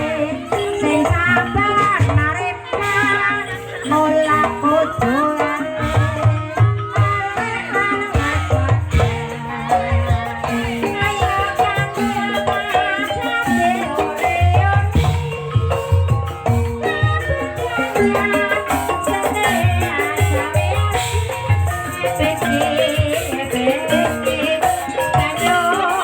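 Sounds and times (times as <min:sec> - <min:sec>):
steady drum beats: 0:00.0 - 0:26.0.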